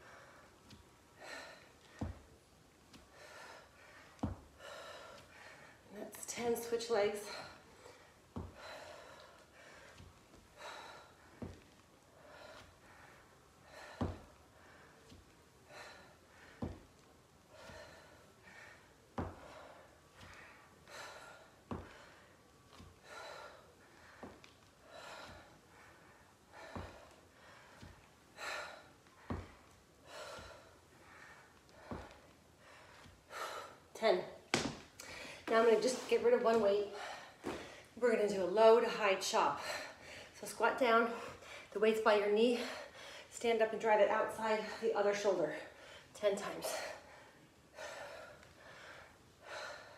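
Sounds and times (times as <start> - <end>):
woman breathing hard: 0.0 - 2.3, 2.9 - 34.0, 35.0 - 36.2, 36.8 - 38.0, 39.5 - 40.4, 42.5 - 43.3, 45.6 - 49.9.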